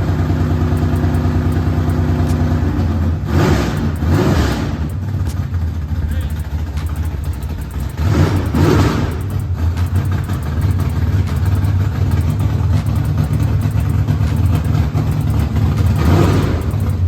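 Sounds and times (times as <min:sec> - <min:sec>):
loud rough car engine revving: 0:00.0 - 0:17.0.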